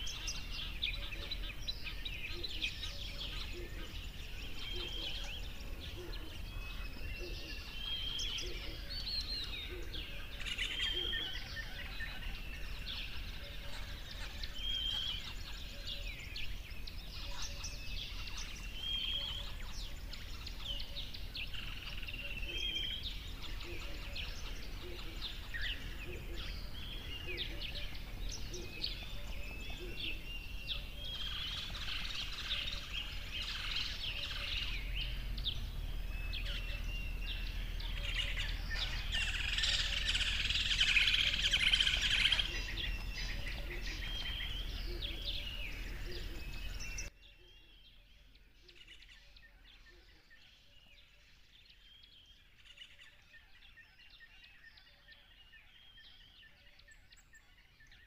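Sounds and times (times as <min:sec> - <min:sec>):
birds chirping and whistling: 0:00.0 - 0:58.0.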